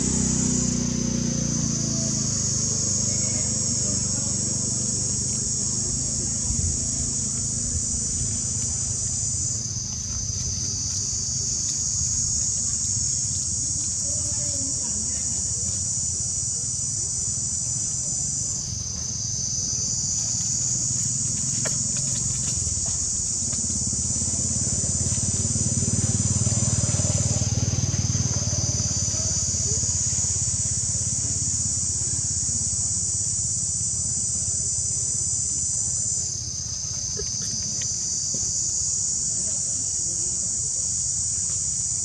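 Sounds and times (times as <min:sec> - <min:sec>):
high-pitched insect chorus: 0:00.0 - 0:42.0
low steady rumble: 0:00.0 - 0:42.0.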